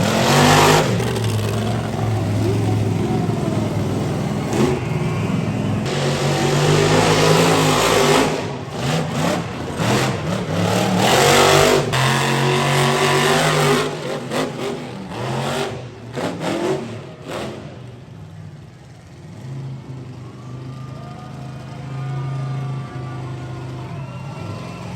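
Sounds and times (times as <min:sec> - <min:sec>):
truck engine revving: 0:00.0 - 0:24.9.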